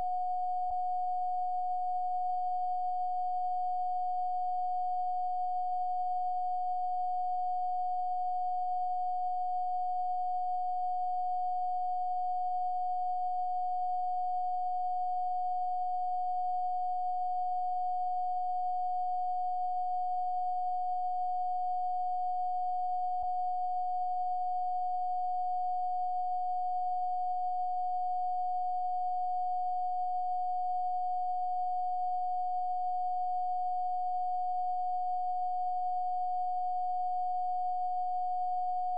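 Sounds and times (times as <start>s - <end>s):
steady pure sine tone: 0.0s - 38.9s.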